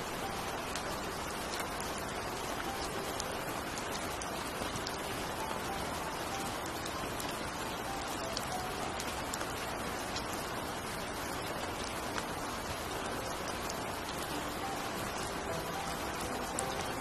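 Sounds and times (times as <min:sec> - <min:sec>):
heavy rain on paving: 0:00.0 - 0:17.0.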